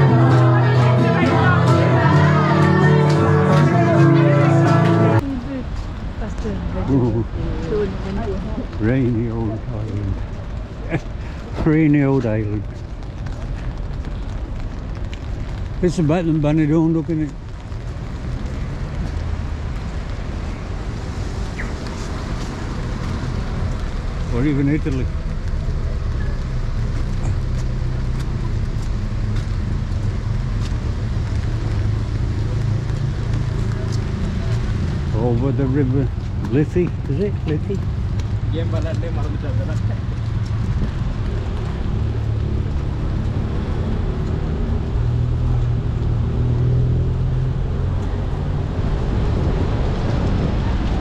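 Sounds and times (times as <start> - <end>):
city traffic rumble: 0.0 - 51.0
vehicle engine hum: 0.0 - 51.0.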